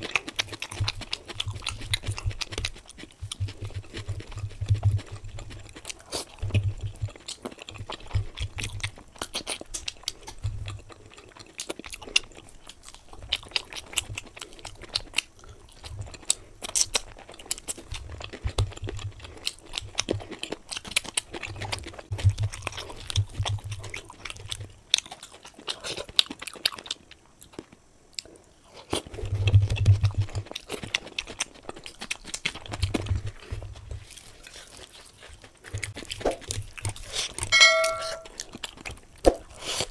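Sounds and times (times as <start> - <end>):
food crunching: 0.0 - 39.9
person chewing food: 0.0 - 39.9.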